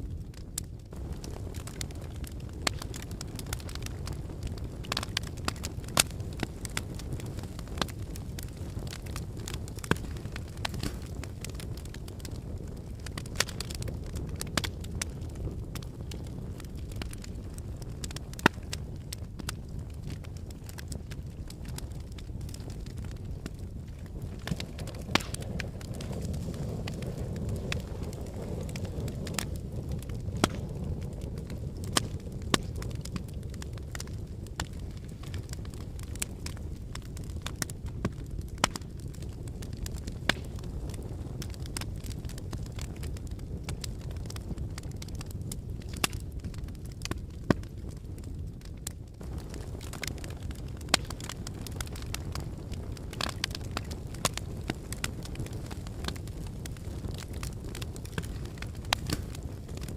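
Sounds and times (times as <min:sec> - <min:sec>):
low rumble of flame: 0:00.0 - 0:59.9
wood fire crackling and popping: 0:00.0 - 0:59.9.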